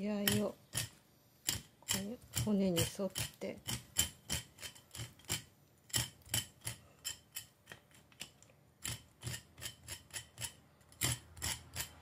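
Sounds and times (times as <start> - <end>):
knife tip scraping fish: 0.2 - 12.0.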